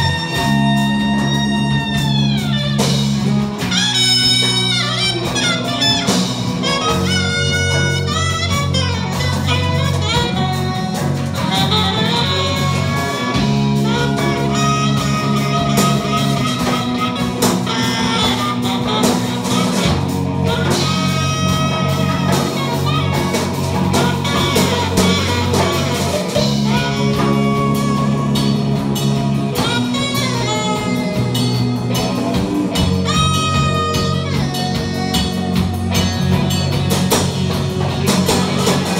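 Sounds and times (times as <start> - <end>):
live band instrumental groove: 0.0 - 38.9
saxophone melody: 0.0 - 38.9.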